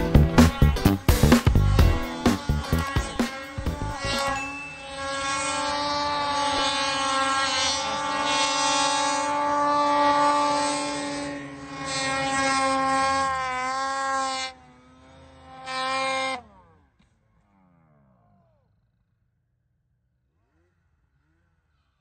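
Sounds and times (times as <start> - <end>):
snowmobile engine whine: 0.0 - 22.0.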